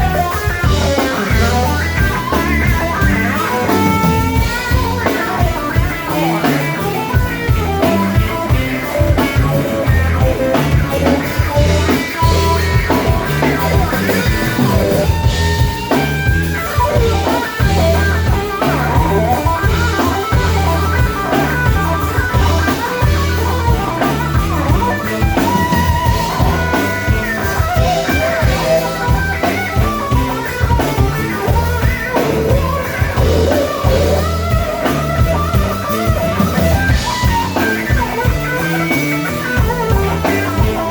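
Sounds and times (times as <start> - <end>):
bass guitar: 0.0 - 40.9
drum kit steady beat: 0.0 - 40.9
electric guitar lead: 0.0 - 40.9.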